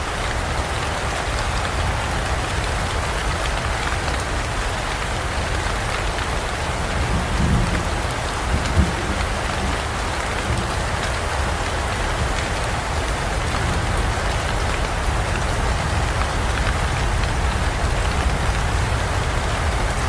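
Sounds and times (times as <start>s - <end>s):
heavy rain pattering: 0.0s - 20.0s.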